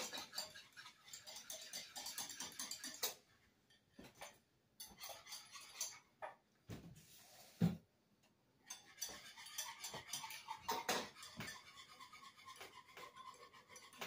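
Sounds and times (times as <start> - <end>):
dishes and metal utensils clinking: 0.0 - 6.4, 8.6 - 14.0.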